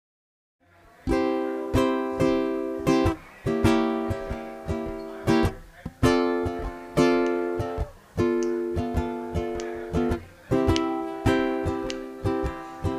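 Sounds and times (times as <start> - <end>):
baritone ukulele chords plucked: 1.1 - 12.9.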